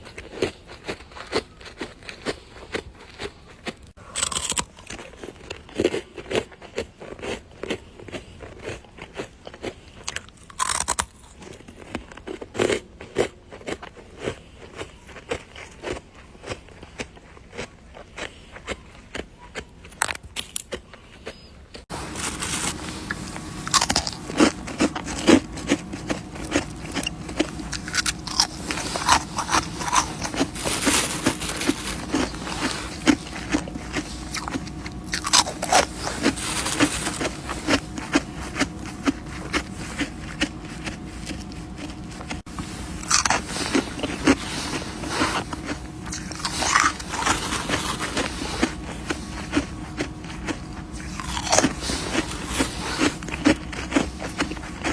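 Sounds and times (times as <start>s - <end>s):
crunchy frost chewing: 0.0s - 54.9s.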